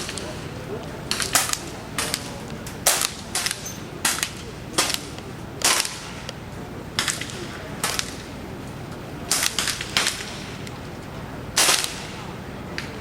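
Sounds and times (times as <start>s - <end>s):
air rifles firing: 0.0s - 10.9s, 11.5s - 13.0s.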